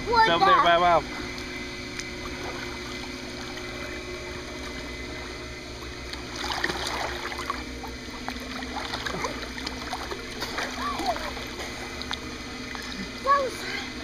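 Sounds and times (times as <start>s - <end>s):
steady low hum: 0.0s - 14.0s
water sloshing and splashing: 1.2s - 14.0s.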